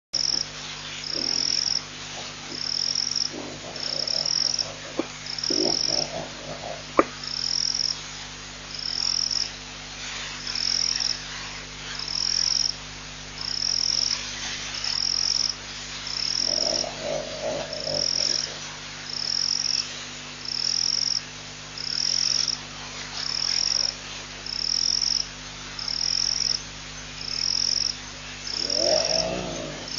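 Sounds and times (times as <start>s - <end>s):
frogs croaking: 0.2s - 8.0s, 8.7s - 9.6s, 10.2s - 12.8s, 13.4s - 22.6s, 23.2s - 29.9s
faint low hum: 0.2s - 29.9s.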